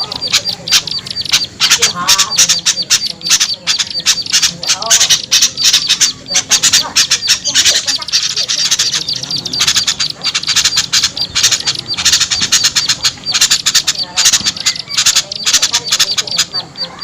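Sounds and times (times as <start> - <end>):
songbirds chattering: 0.0 - 17.0.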